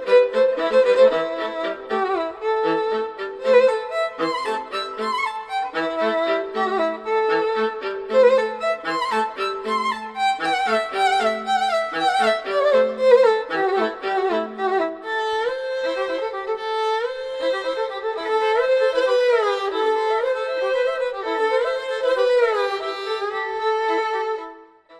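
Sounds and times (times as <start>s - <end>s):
violin-like melody with accompaniment: 0.0s - 24.9s.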